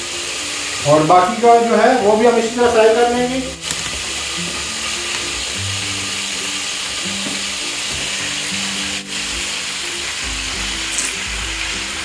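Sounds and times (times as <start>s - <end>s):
background music: 0.0s - 12.0s
skewers sizzling in hot oil: 0.0s - 12.0s.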